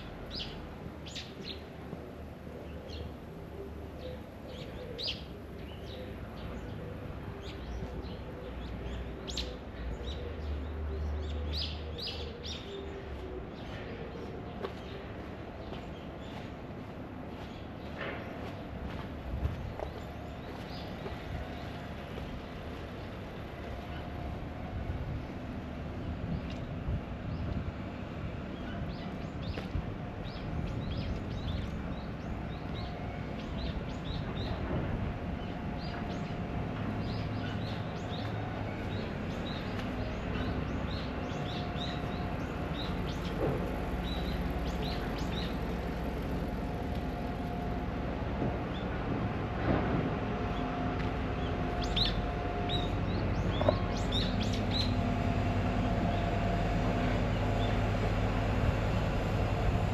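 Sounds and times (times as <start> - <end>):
city traffic hum: 0.0 - 59.9.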